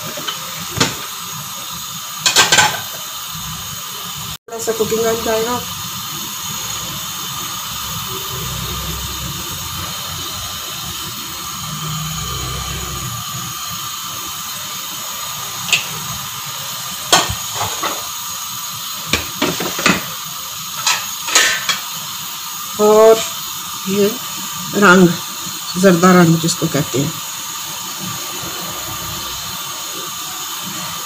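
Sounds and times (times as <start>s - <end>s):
stove hissing: 0.0s - 31.0s.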